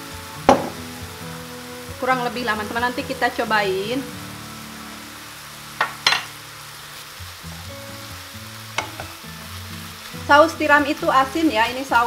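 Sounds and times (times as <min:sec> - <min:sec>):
meat sizzling in a frying pan: 0:00.0 - 0:12.0
soft background music: 0:00.0 - 0:12.0.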